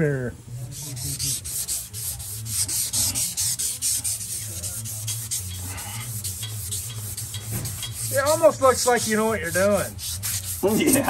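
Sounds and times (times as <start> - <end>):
emery cloth rasping on metal shaft: 0.7 - 11.0.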